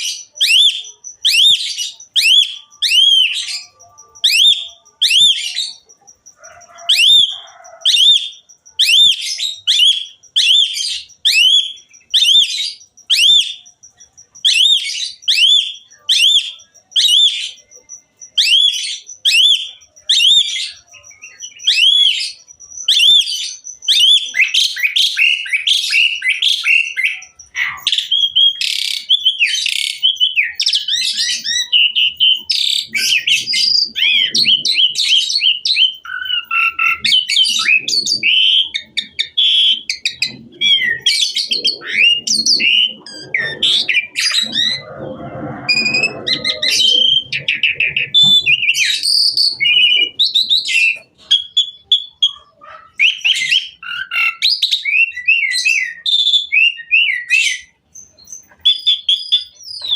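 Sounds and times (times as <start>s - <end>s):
starling singing whistled phrases: 0.0s - 59.9s.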